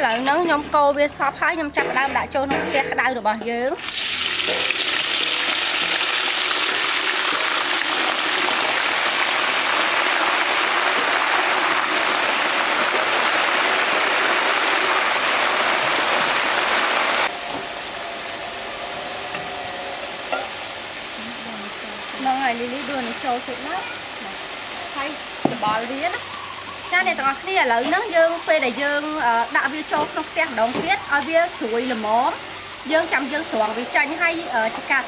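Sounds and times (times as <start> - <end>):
food deep-frying in hot oil: 3.6 - 17.3, 20.4 - 35.0.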